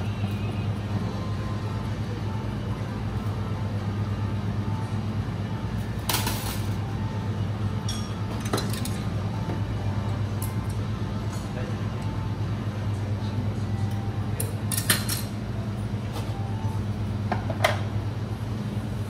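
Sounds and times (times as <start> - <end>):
exhaust fan humming: 0.0 - 19.0.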